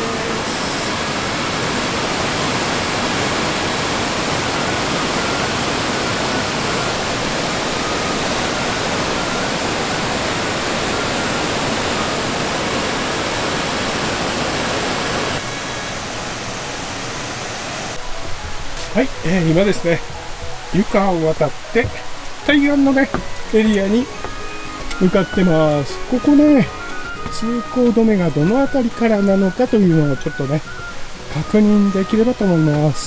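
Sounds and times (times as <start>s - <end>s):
waterfall rushing into river: 0.0s - 33.0s.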